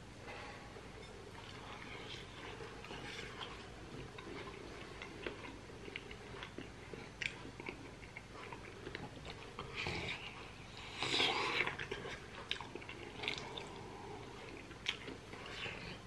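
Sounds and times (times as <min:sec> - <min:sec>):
person chewing meat: 0:01.2 - 0:16.0.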